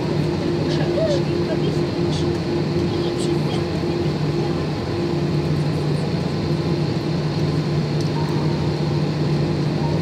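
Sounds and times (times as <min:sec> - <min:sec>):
jet engines idling in cabin: 0:00.0 - 0:10.0.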